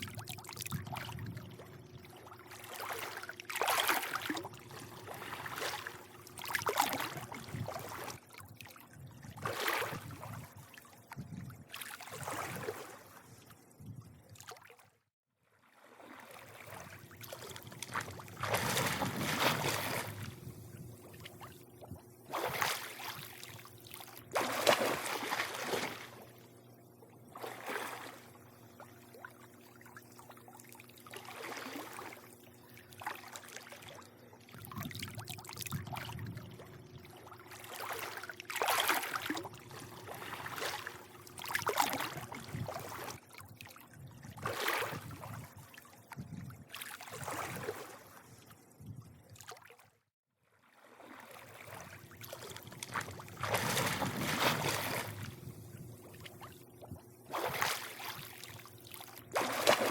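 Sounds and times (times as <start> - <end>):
faint steady hum: 0.0 - 14.5, 15.8 - 49.4, 51.3 - 59.9
pool water lapping and splashing: 0.0 - 59.9.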